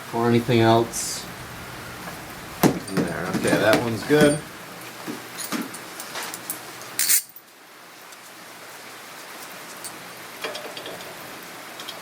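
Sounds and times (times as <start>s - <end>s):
steady hiss: 0.0s - 10.4s.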